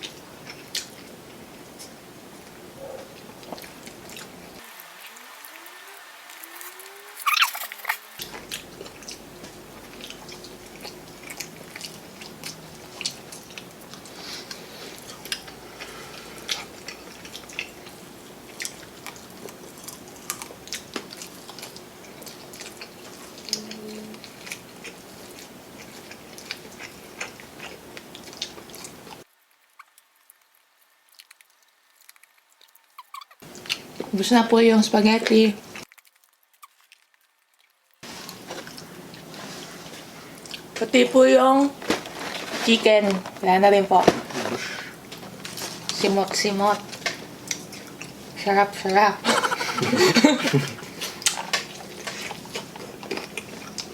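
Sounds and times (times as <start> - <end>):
chewing and biting mouth sounds: 0.0 - 34.2, 35.2 - 40.8, 44.3 - 53.9.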